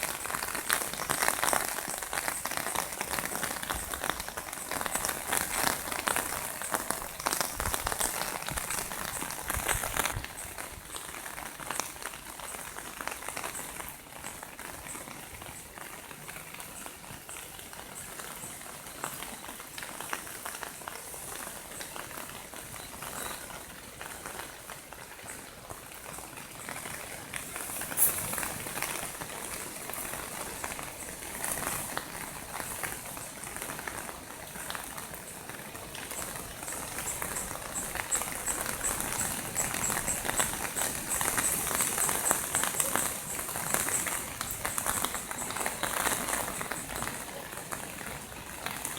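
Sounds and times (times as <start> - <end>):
heavy rain pattering: 0.0 - 48.9.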